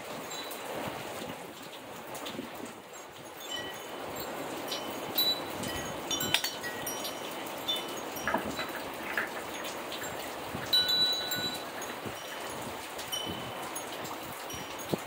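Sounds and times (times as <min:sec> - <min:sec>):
rain hissing: 0:00.0 - 0:15.0
wind chimes ringing: 0:00.2 - 0:00.7, 0:03.1 - 0:15.0.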